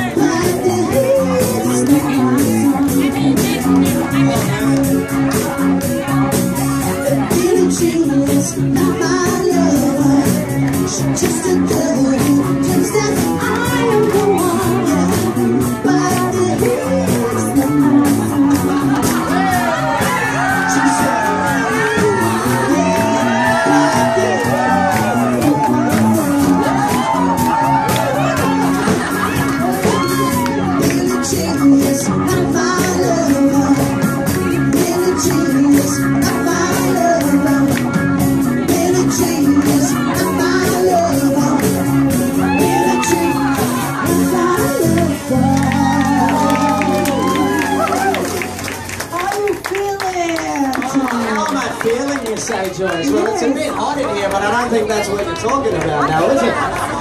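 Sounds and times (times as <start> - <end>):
person singing into a microphone: 0.0 - 5.1, 6.0 - 28.6, 29.5 - 48.2
steady drum beat: 0.0 - 48.9
chords: 0.0 - 49.1
amplified bass: 0.0 - 49.2
electric guitar: 0.0 - 52.2.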